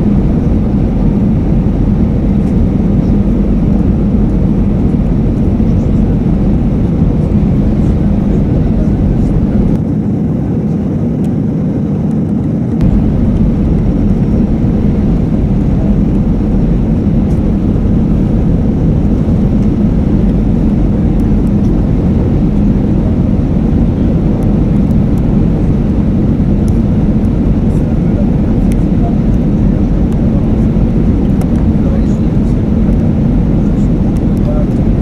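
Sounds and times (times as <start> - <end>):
airplane cabin engine noise: 0.0 - 35.0.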